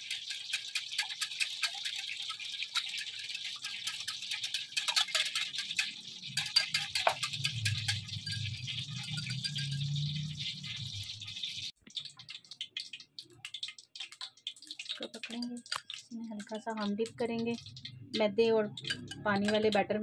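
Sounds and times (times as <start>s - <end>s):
whisk rattling against glass bowl: 0.0s - 20.0s.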